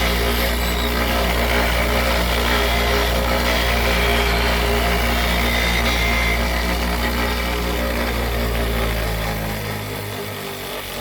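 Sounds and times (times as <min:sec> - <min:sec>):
bench grinder motor hum: 0:00.0 - 0:11.0
steel grinding against wheel: 0:00.0 - 0:11.0.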